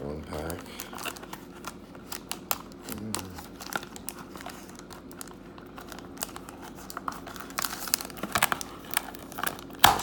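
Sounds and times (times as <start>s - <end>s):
packaging crinkling: 0.3s - 10.0s.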